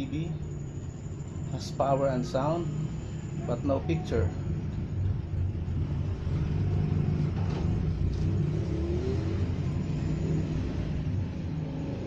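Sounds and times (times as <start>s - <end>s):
low steady rumble: 0.0s - 11.6s.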